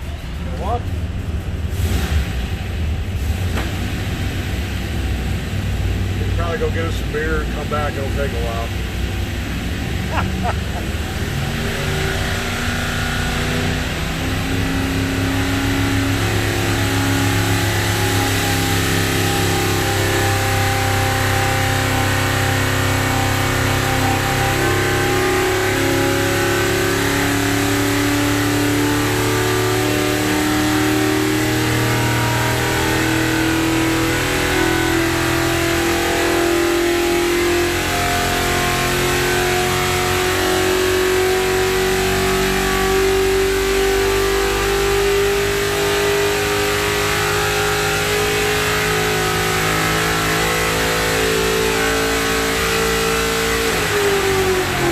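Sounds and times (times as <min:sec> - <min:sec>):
racing engine running under load: 0:00.0 - 0:54.9.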